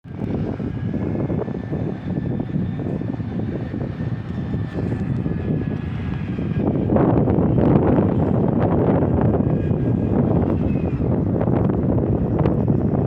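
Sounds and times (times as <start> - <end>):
excavator engine rumble: 0.0 - 13.0
faint high whine: 0.1 - 13.0.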